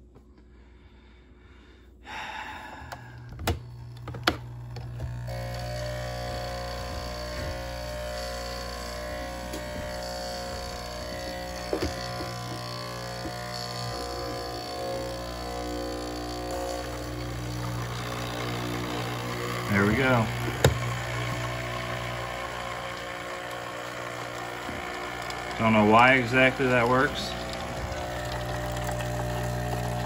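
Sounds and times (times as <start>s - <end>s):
coffee machine pump buzzing: 2.1s - 30.0s.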